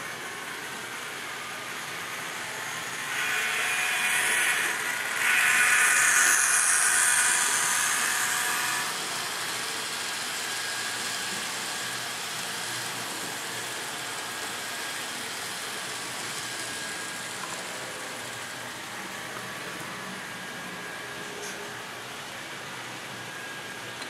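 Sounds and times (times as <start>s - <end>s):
model train wheels whirring on rail: 0.0s - 24.0s.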